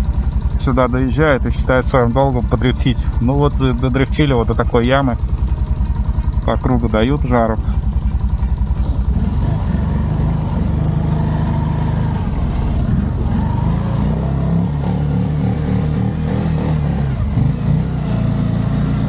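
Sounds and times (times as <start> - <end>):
quad bike engine revving: 0.0 - 19.0.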